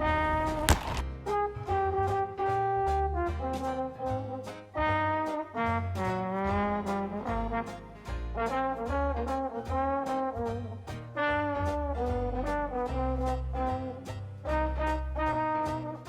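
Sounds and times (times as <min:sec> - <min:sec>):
brass-led background music: 0:00.0 - 0:16.0.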